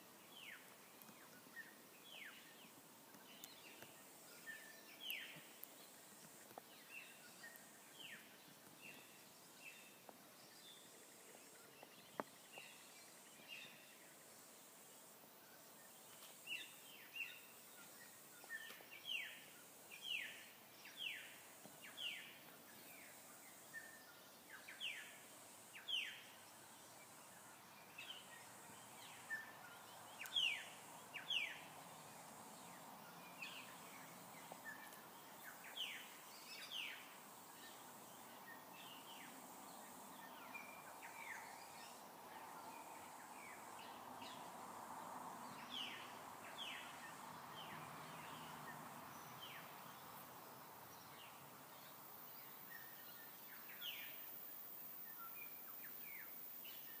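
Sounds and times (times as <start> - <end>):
faint background noise: 0.0 - 57.0.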